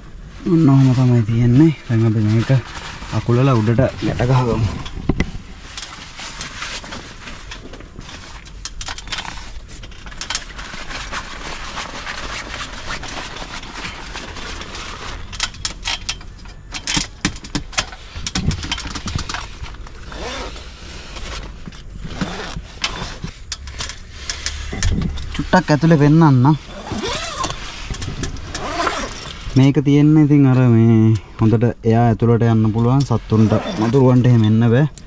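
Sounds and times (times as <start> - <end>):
canvas rustling: 0.0 - 16.7, 19.3 - 31.6, 32.5 - 35.0.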